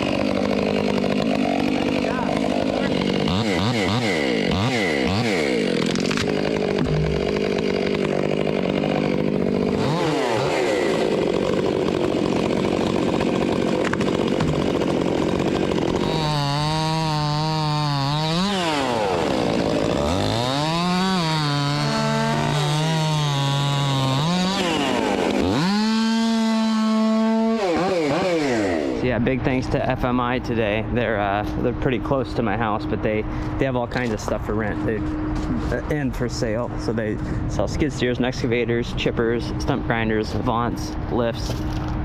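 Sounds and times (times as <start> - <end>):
chainsaw cutting wood: 0.0 - 29.1, 33.3 - 42.0.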